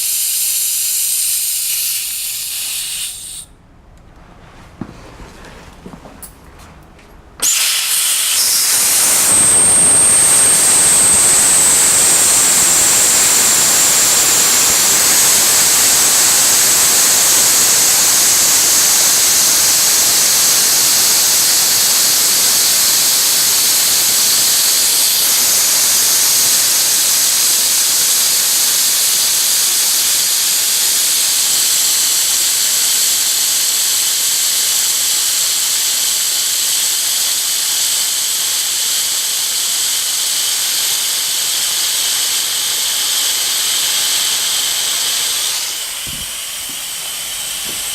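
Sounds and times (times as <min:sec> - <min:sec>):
compressed air hissing with whistle: 0:00.0 - 0:03.6, 0:07.4 - 0:47.9.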